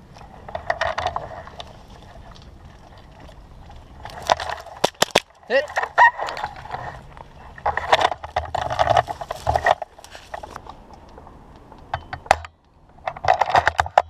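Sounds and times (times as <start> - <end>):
rustling movement: 0.0 - 11.8.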